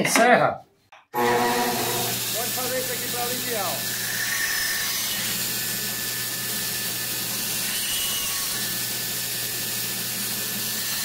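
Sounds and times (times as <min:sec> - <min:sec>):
electric woodworking machine running: 0:01.2 - 0:11.0.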